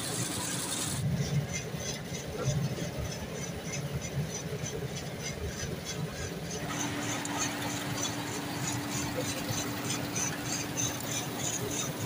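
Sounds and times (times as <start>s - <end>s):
combine harvester engine drone: 0.0s - 12.0s
fast mechanical ticking: 0.0s - 12.0s
steady hum: 0.0s - 12.0s.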